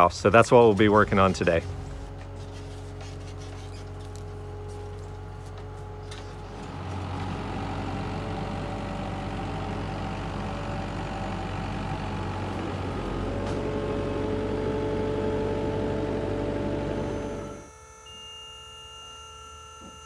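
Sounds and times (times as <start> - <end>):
engine idling: 0.0 - 17.7.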